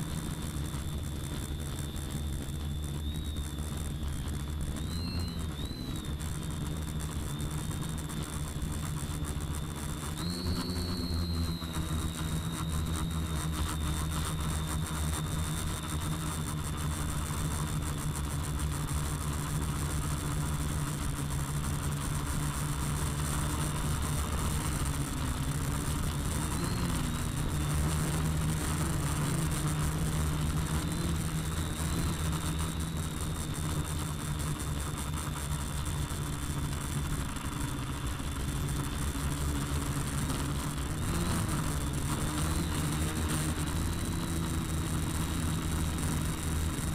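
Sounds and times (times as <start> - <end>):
drone motors whining: 0.0 - 46.9.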